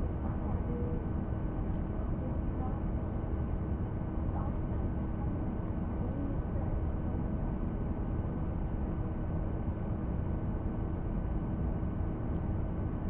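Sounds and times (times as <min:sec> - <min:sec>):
faint constant hum: 0:00.0 - 0:13.0.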